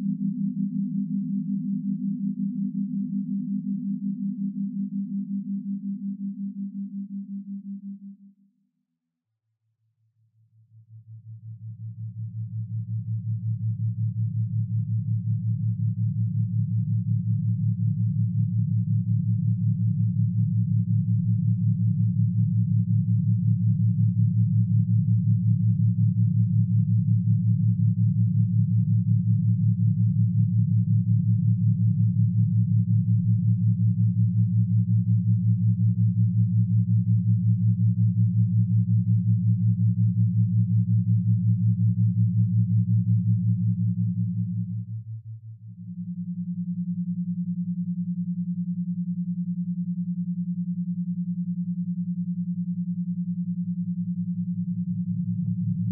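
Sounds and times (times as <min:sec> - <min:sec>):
pulsing low electronic drone: 0:10.9 - 0:55.9.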